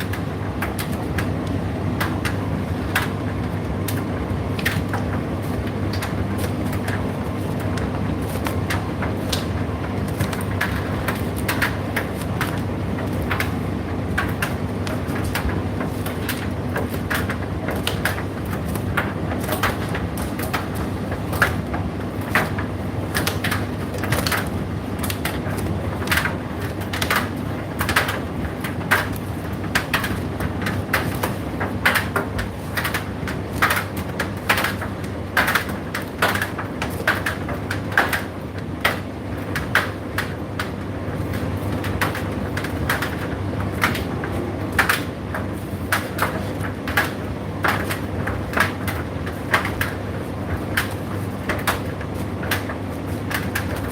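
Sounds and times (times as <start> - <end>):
clicks and taps in dryer: 0.0 - 53.9
tumble dryer humming: 0.0 - 53.9.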